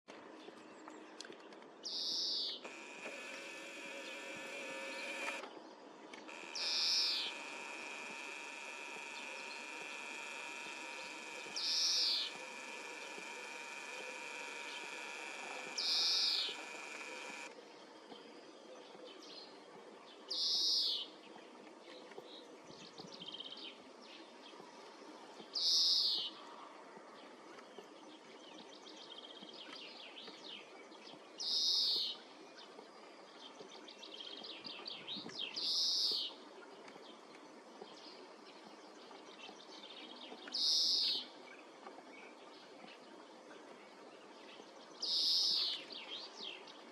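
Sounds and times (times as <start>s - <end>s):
faint bird chirps and trills: 1.8s - 5.4s, 6.3s - 23.6s, 24.2s - 26.5s, 27.1s - 46.9s.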